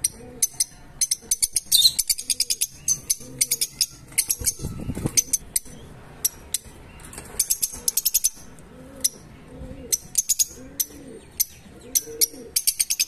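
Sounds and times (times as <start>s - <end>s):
birds chirping shrilly: 0.0s - 13.0s
low arching bird calls: 0.0s - 13.0s.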